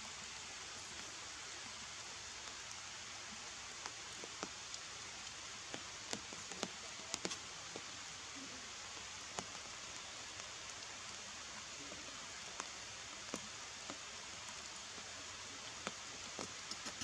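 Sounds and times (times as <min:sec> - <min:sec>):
forest ambience hiss: 0:00.0 - 0:17.0
faint ticks and clicks: 0:00.2 - 0:17.0.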